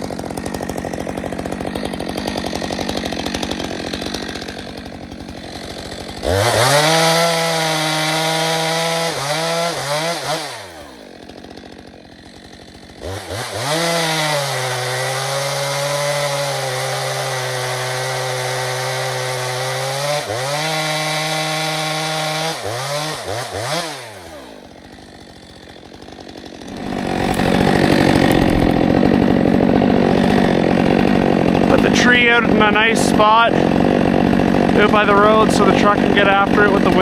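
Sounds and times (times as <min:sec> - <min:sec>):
chainsaw revving: 0:00.0 - 0:37.0.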